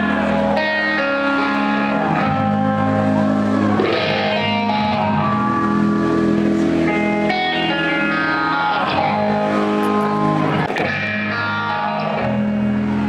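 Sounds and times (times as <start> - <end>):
guitar with long ringing notes: 0.0 - 13.0.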